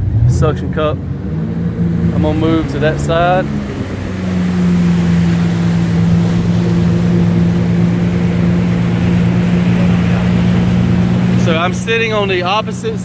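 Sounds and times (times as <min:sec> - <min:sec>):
boat engine droning: 0:00.0 - 0:13.0
wind and water rushing: 0:00.0 - 0:13.0.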